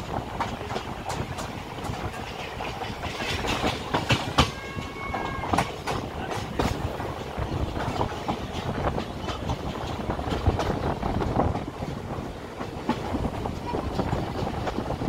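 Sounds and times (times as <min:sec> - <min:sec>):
train wheels rumbling on rail: 0:00.0 - 0:15.0
wheels clacking over rail joints: 0:00.0 - 0:15.0.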